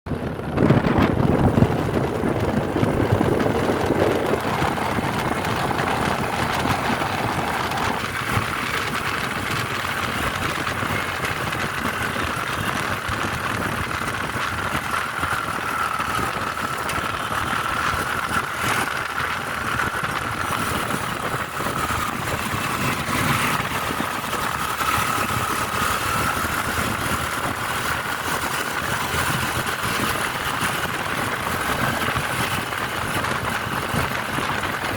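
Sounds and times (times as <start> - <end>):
vehicle engine and road noise: 0.1 - 34.9.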